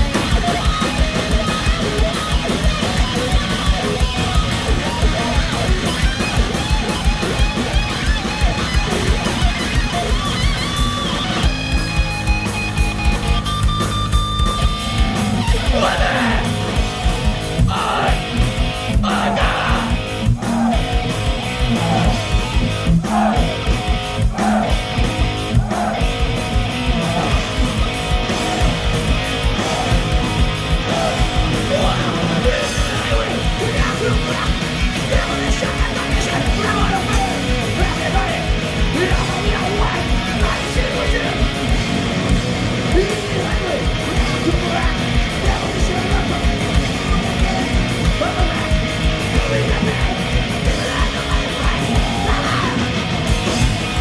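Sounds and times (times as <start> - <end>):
bass guitar: 0.0 - 54.0
drum kit beat: 0.0 - 54.0
electric guitar: 0.0 - 54.0.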